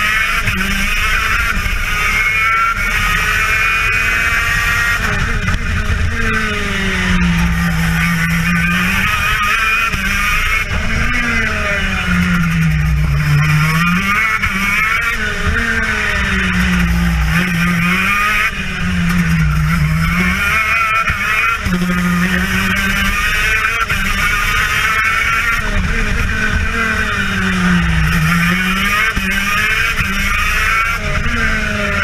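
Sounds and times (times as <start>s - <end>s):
racing kart engine revving: 0.0s - 32.0s.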